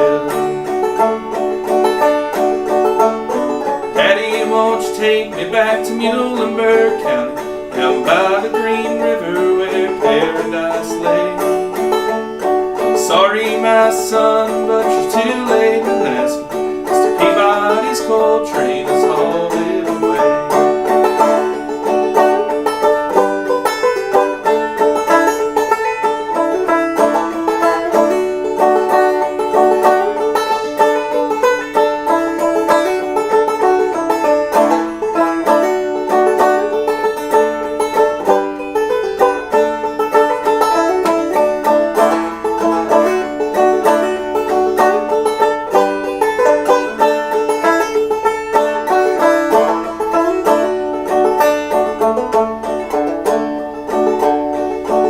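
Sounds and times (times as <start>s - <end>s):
clawhammer banjo playing: 0.0s - 55.0s.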